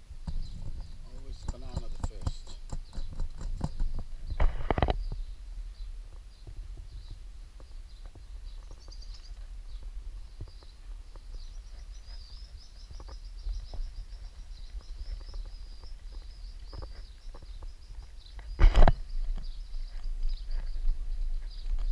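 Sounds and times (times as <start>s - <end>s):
high-pitched chirping and twittering: 0.2s - 21.8s.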